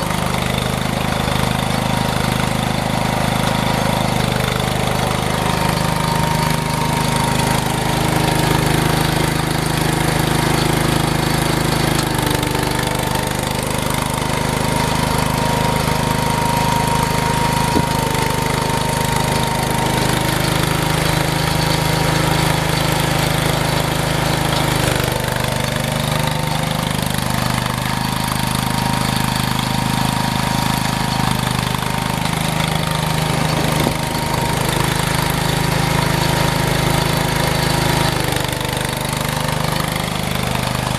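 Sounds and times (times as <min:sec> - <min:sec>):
engine running under load: 0:00.0 - 0:40.9.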